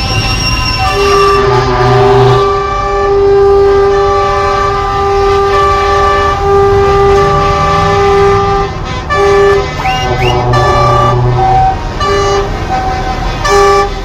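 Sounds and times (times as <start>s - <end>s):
low engine rumble: 0.0s - 14.0s
truck air horn blasts: 0.0s - 14.0s.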